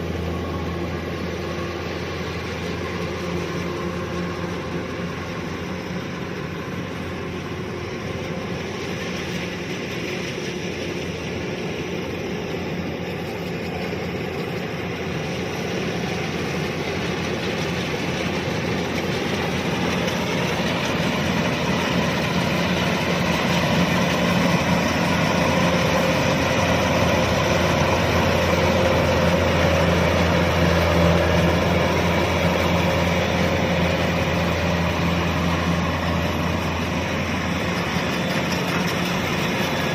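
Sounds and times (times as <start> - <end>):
combine harvester humming: 0.0 - 39.9.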